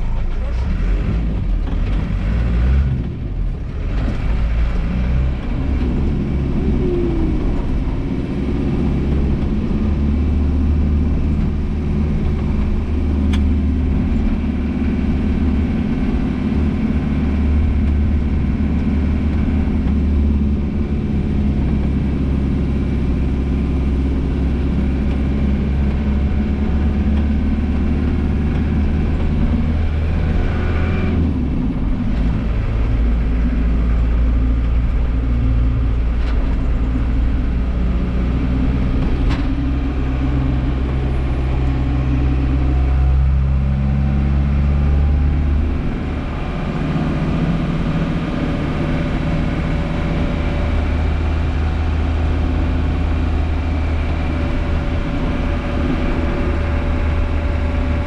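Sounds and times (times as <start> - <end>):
car engine drone: 0.0 - 58.0
road and tyre noise: 0.0 - 58.0.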